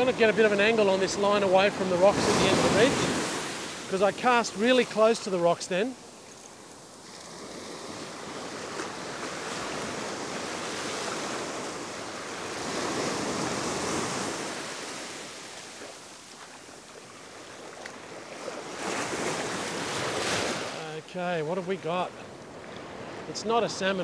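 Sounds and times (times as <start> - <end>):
surf washing onto sandy beach: 0.0 - 24.0.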